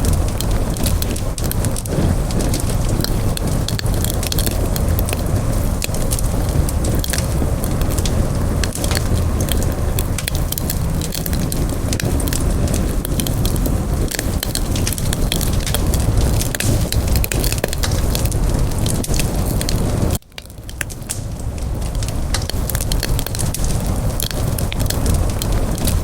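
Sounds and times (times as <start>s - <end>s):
campfire crackling and popping: 0.0s - 26.0s
low rush of flame: 0.0s - 26.0s.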